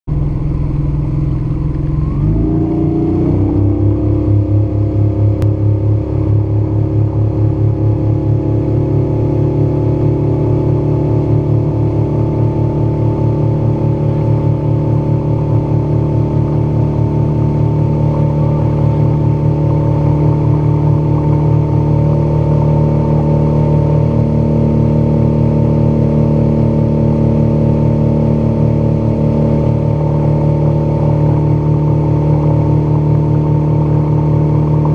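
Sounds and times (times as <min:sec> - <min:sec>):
outboard motor running: 0:00.1 - 0:34.9.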